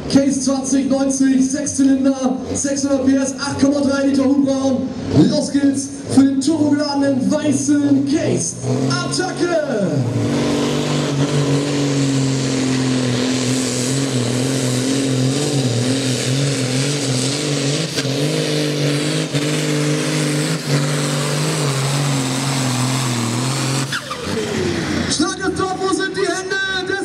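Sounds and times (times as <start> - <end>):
tractor diesel engine at high revs: 0.0 - 27.0.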